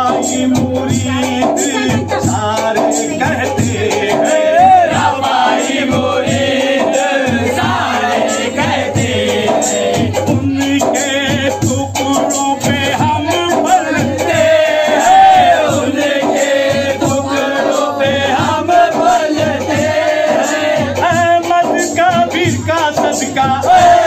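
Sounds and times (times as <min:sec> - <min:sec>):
man singing into a microphone: 0:00.0 - 0:24.0
men singing a chant: 0:00.0 - 0:24.0.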